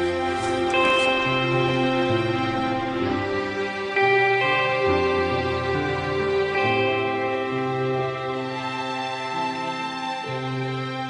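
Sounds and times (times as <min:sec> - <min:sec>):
slow gentle background music: 0:00.0 - 0:11.0.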